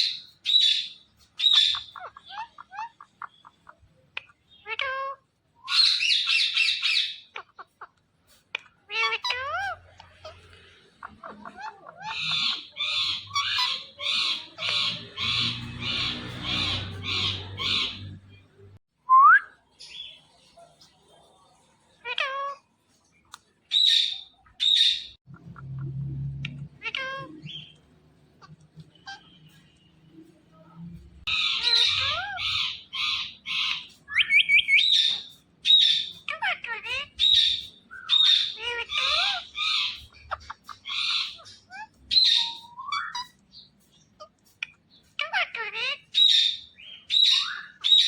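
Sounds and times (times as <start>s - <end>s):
parakeet calling: 0.0s - 18.8s, 23.7s - 29.9s, 31.2s - 48.0s
shrill squawks: 0.0s - 18.8s, 26.4s - 48.0s.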